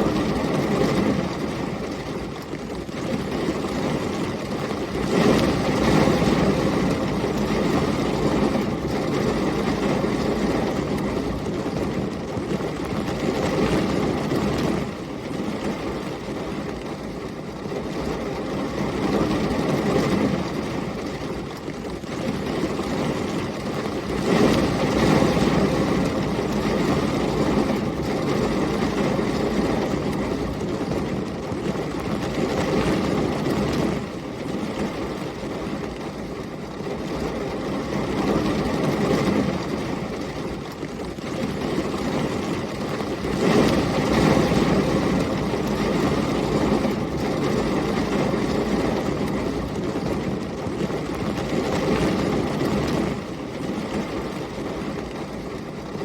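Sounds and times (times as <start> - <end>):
heavy rain: 0.0 - 56.0
storm wind: 0.0 - 56.0.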